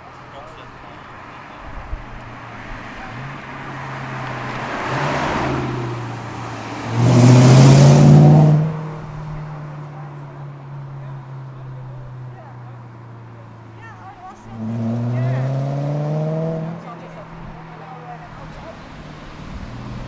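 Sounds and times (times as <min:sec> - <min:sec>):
engine hard acceleration: 0:00.0 - 0:20.0
car driving past: 0:00.4 - 0:20.0.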